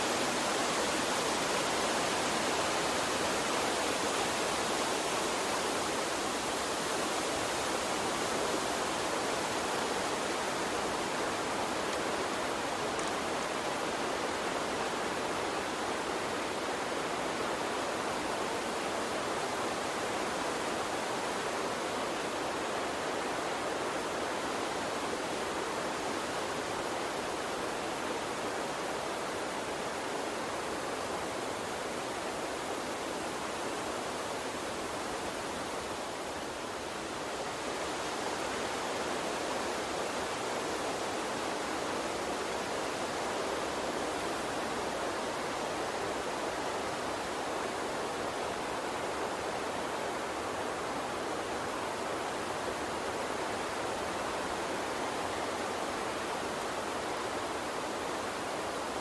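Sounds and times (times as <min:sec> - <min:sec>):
water stream flowing: 0:00.0 - 0:59.0.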